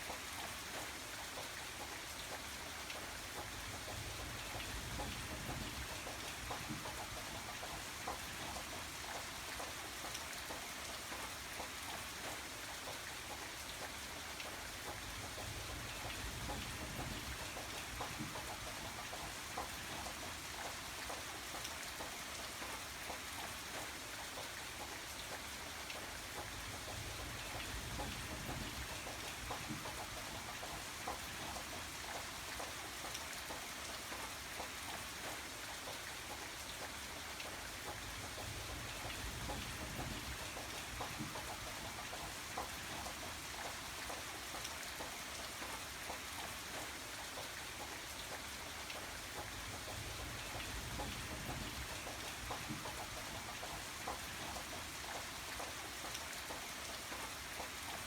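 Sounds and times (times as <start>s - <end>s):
raindrops ticking on a surface: 0.0s - 58.0s.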